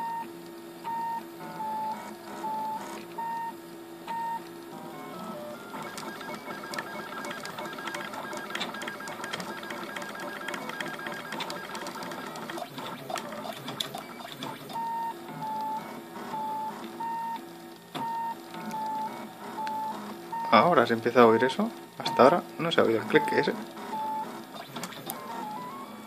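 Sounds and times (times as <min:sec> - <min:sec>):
printer stepper motors whining: 0:04.1 - 0:17.4, 0:18.0 - 0:26.0.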